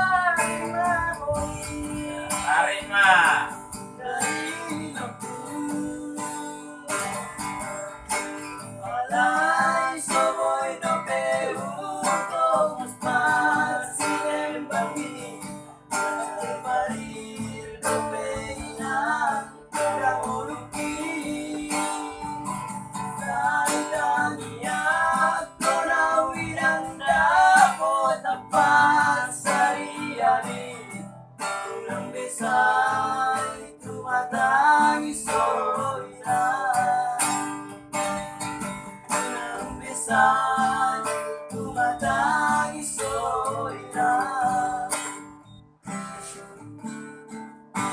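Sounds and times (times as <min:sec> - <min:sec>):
person singing: 0:00.0 - 0:08.1, 0:08.7 - 0:22.4, 0:23.1 - 0:30.9, 0:31.6 - 0:37.5, 0:39.1 - 0:45.2
acoustic guitar strumming: 0:00.0 - 0:47.9.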